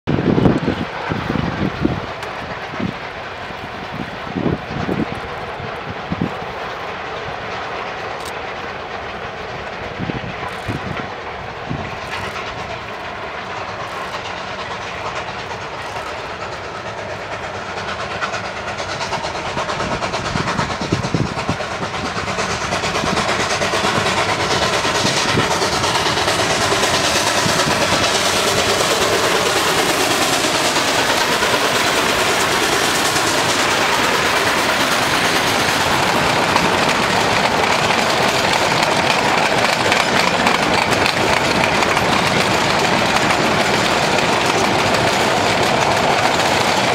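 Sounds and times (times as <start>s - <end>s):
steam locomotives working: 0.1s - 46.9s.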